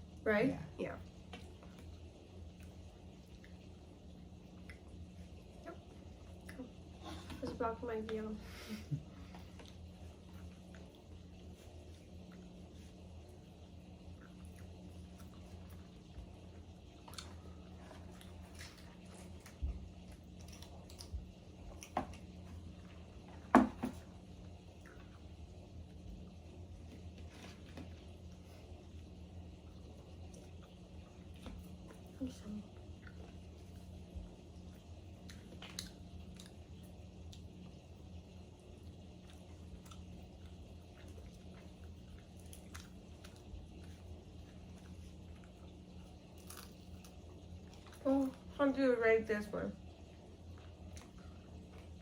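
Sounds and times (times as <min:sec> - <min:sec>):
steady low hum: 0:00.0 - 0:52.0
chewing food: 0:01.0 - 0:08.2, 0:09.0 - 0:48.6, 0:49.8 - 0:52.0.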